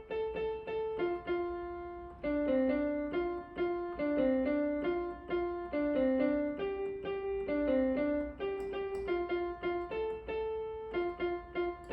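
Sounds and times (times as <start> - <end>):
gentle piano melody: 0.0 - 11.9.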